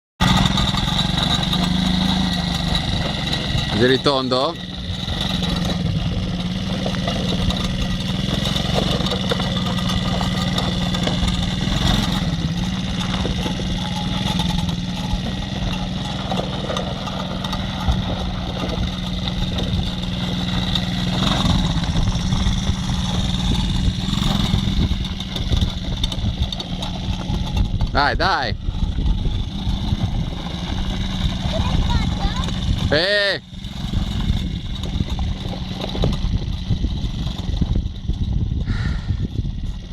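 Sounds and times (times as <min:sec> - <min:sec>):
small quad engine running: 0:00.2 - 0:39.9.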